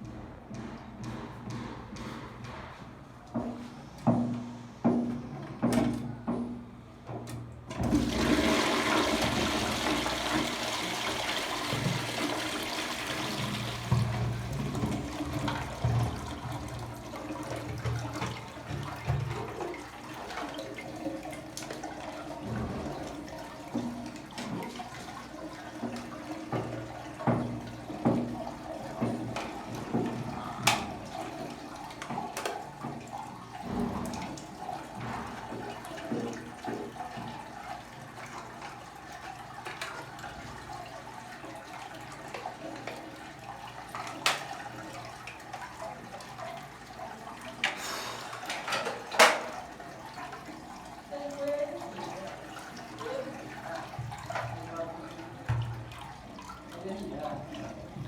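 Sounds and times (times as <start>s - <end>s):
toilet cistern flushing: 7.4s - 58.0s
cistern refilling: 7.7s - 58.0s.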